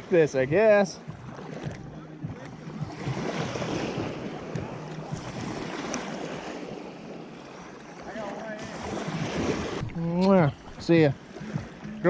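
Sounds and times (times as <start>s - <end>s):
water lapping at shore: 0.0s - 12.0s
wind on microphone: 1.0s - 12.0s.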